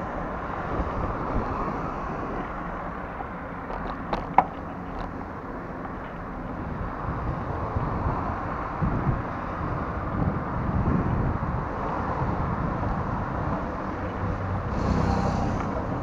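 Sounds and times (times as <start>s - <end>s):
street traffic hum: 0.0s - 16.0s
wind buffeting microphone: 0.0s - 16.0s.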